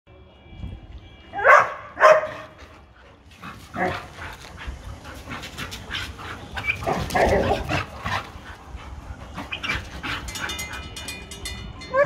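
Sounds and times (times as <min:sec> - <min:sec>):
dogs barking and yipping: 0:01.4 - 0:12.0.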